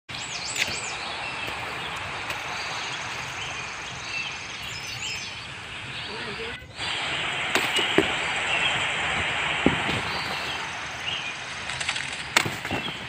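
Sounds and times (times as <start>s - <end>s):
birds chirping: 0.1s - 13.0s
steady background hiss: 0.1s - 13.0s.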